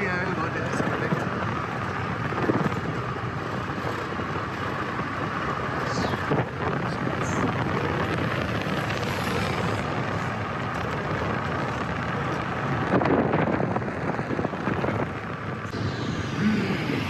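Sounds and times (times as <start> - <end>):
road noise from moving vehicle: 0.0 - 17.0
wind buffeting microphone: 0.0 - 17.0.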